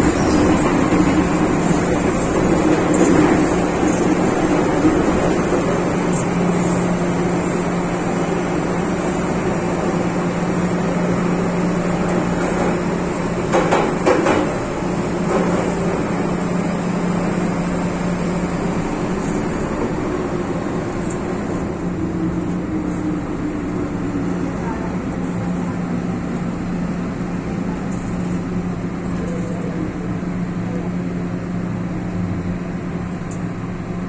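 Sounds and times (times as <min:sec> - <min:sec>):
train clunks: 0:00.0 - 0:29.8
train rumbling: 0:00.0 - 0:34.0.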